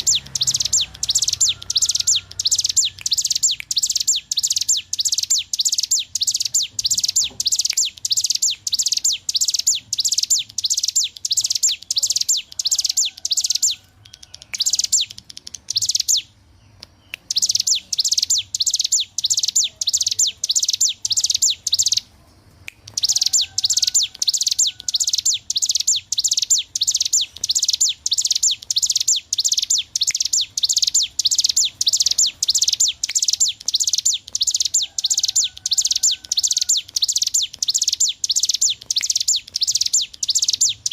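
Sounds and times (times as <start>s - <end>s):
bird high chirping song: 0.0s - 40.9s.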